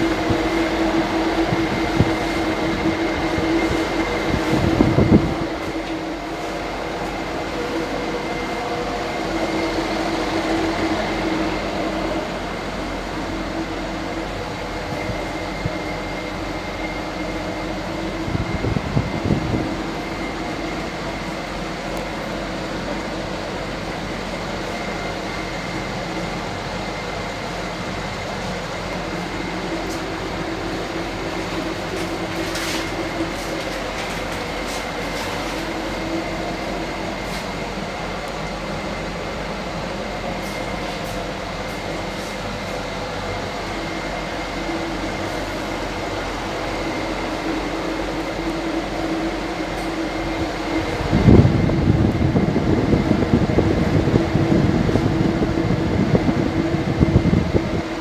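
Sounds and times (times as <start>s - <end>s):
air conditioning hum: 0.0s - 58.0s.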